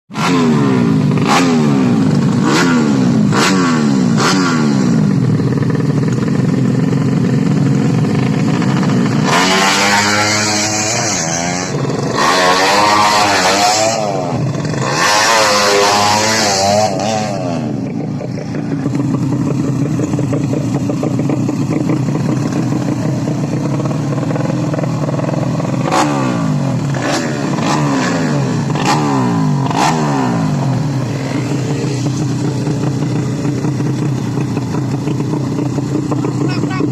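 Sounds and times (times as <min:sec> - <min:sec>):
motorcycle engines revving: 0:00.1 - 0:36.9.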